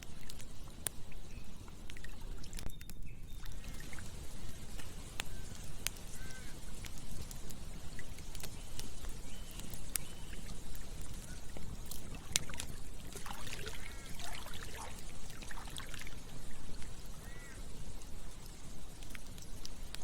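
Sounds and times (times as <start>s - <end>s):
campfire crackling: 0.0s - 20.0s
sharp pops of fire: 0.0s - 20.0s.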